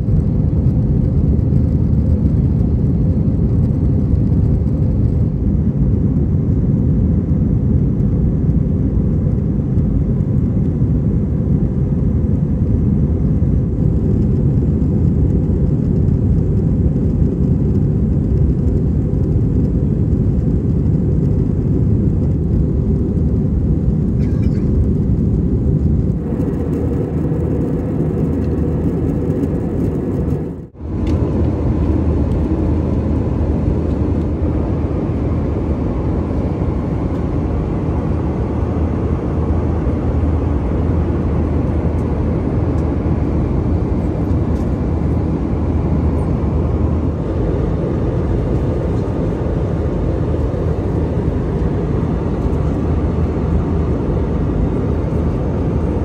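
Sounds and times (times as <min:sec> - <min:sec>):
jet engine cabin roar: 0:00.0 - 0:56.0.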